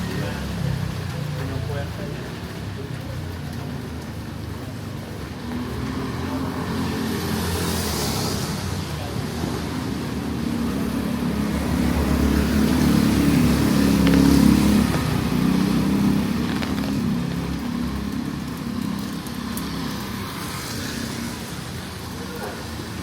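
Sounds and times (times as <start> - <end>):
motor vehicle passing by: 0.0 - 23.0.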